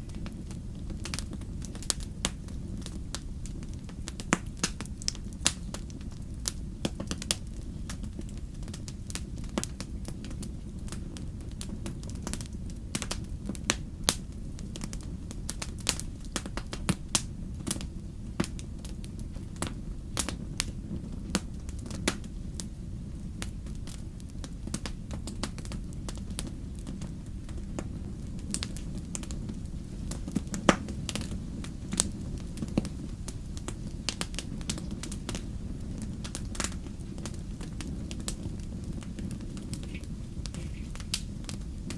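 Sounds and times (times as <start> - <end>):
fire flames rumbling: 0.0 - 41.9
logs crackling and popping: 0.0 - 41.9.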